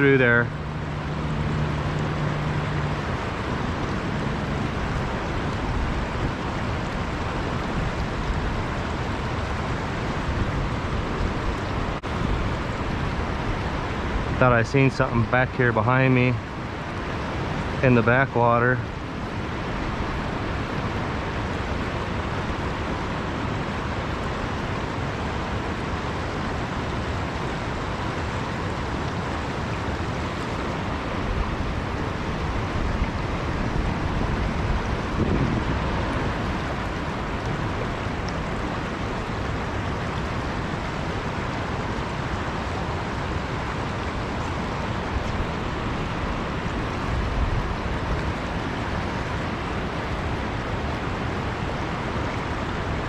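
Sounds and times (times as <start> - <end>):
river current rushing: 0.0 - 53.0.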